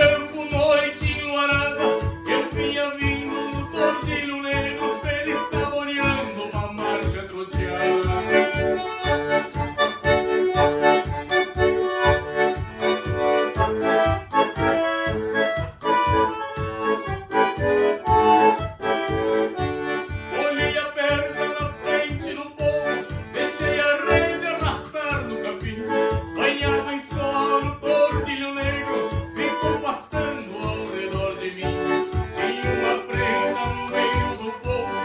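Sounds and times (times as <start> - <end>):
bandoneon melody: 0.0 - 35.0
rhythmic accompaniment with bass: 0.0 - 35.0.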